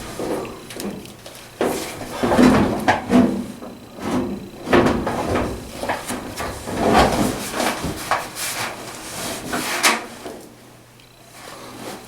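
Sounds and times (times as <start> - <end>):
dryer drum scraping and knocking: 0.0 - 10.3.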